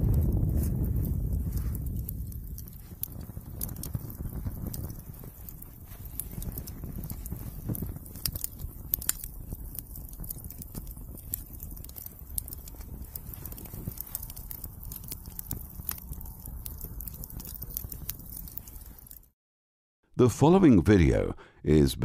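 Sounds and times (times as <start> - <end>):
low fire rumble: 0.0 - 19.3
fire crackling: 0.0 - 19.4.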